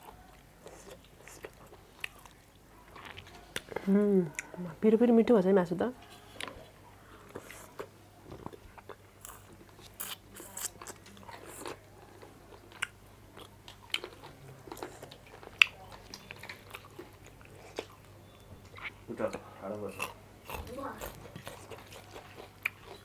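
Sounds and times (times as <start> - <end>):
person chewing with wet smacks: 0.0 - 4.6, 6.1 - 23.0.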